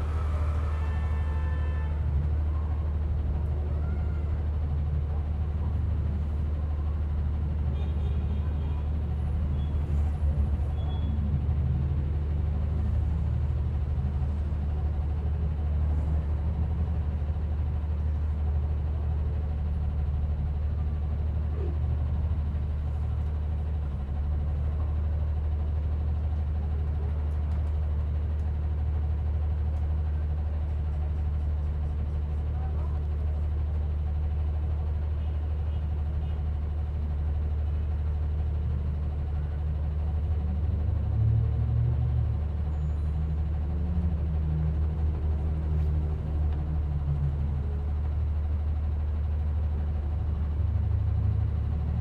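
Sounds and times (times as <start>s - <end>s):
bus engine drone: 0.0s - 52.0s
road noise: 0.0s - 52.0s.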